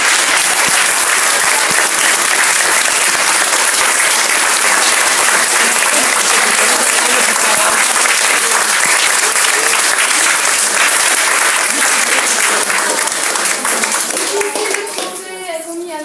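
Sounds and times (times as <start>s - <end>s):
applause: 0.0s - 15.4s.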